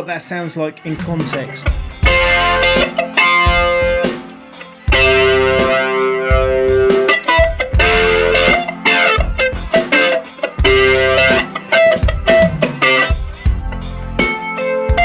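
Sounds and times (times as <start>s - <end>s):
electric guitar picking chords: 0.8s - 15.0s.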